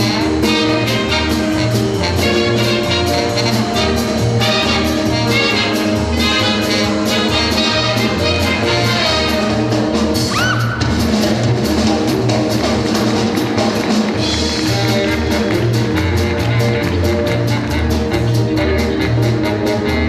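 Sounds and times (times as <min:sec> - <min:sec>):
drum kit fast beat: 0:00.0 - 0:20.0
lively band music: 0:00.0 - 0:20.0.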